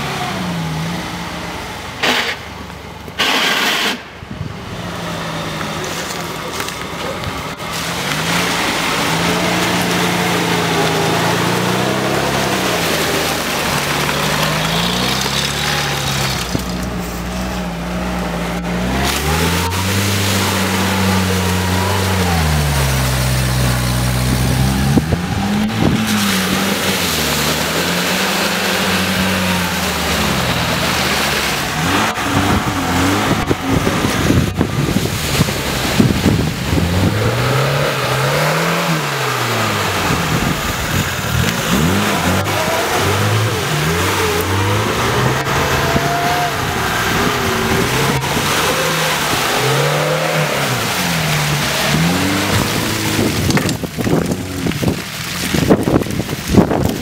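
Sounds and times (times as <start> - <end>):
mud and water splattering: 0.0 - 57.0
off-road engines revving: 0.0 - 57.0.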